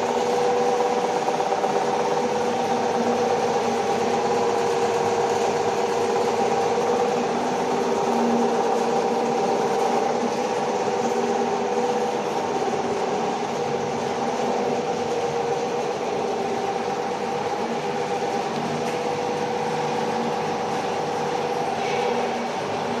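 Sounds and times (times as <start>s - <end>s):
workshop machinery drone: 0.0s - 23.0s.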